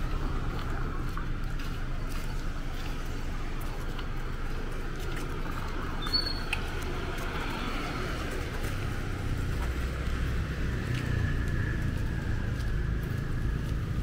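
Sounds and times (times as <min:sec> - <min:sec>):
motorbikes and cars passing: 0:00.0 - 0:14.0.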